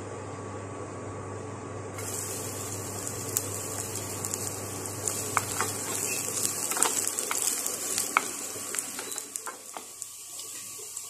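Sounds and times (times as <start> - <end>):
garlic sizzling in oil: 2.0 - 11.0.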